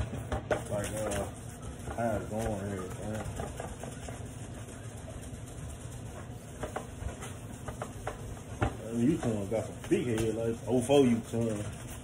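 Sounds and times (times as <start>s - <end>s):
sandpaper rubbing on plastic: 0.0s - 12.0s
steady low hum: 0.0s - 12.0s.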